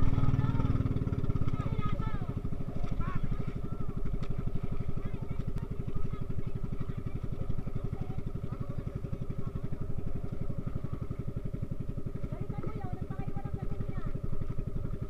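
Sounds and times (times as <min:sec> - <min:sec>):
boat engine puttering: 0:00.0 - 0:15.0.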